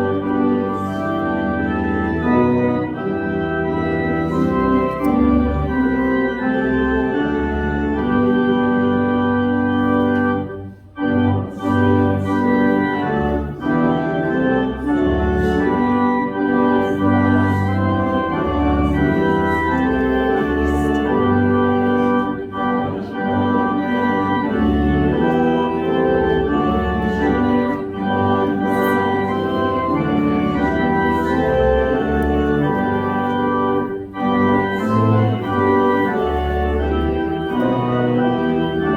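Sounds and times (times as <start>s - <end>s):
organ playing a hymn: 0.0s - 38.9s.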